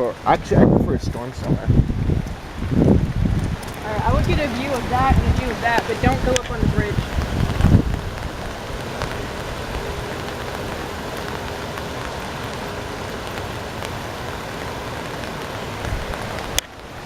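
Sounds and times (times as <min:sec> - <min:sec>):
rushing flood water: 0:00.0 - 0:17.0.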